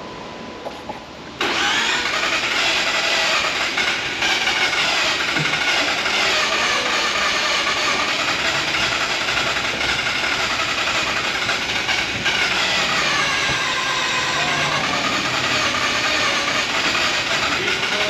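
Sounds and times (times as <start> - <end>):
starter motor cranking engine: 1.4 - 18.0.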